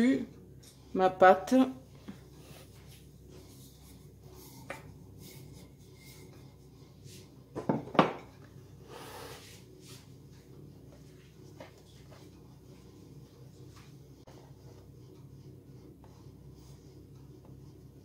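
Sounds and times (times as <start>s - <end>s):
soft rubbing: 1.8s - 7.5s, 8.6s - 18.0s.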